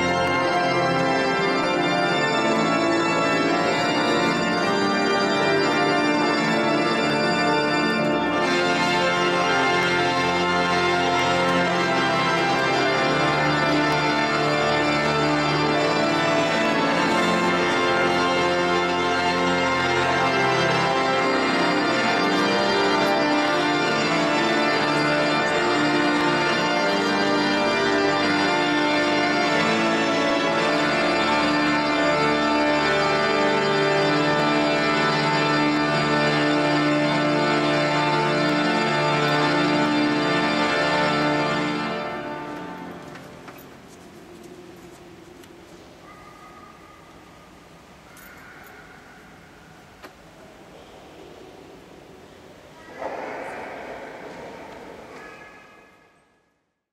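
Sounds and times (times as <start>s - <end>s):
pipe organ playing sustained chords: 0.0s - 56.3s.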